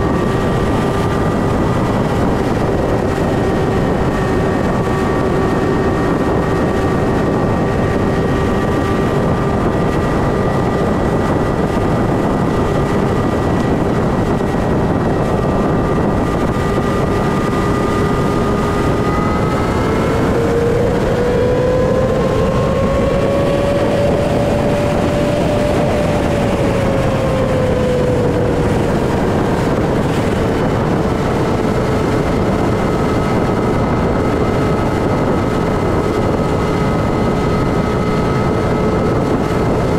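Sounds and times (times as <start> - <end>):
loud rushing wind noise: 0.0 - 39.9
motorcycle engine cruising: 0.0 - 39.9.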